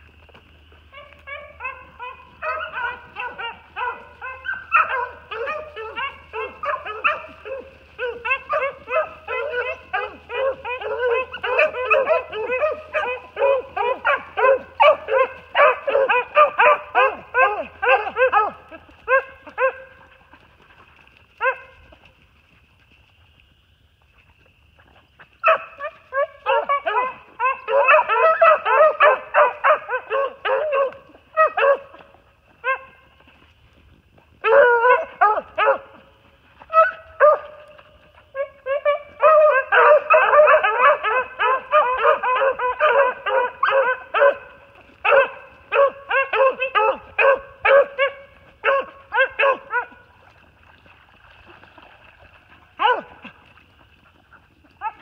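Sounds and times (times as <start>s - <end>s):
dogs barking and baying: 0.0s - 22.1s, 24.8s - 50.5s, 51.5s - 55.0s.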